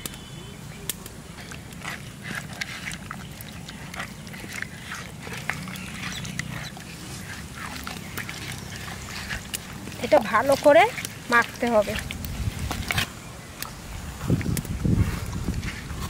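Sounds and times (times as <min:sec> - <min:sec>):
hands squelching raw fish: 0:00.0 - 0:16.0.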